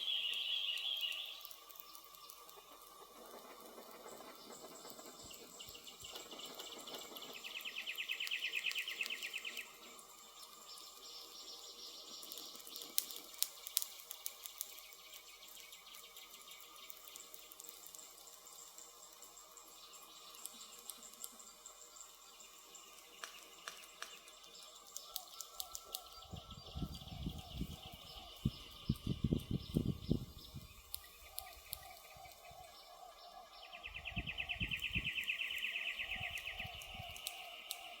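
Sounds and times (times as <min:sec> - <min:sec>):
high insect tones: 0:00.0 - 0:38.0
insects trilling: 0:00.0 - 0:38.0
wood fire crackling: 0:00.0 - 0:38.0.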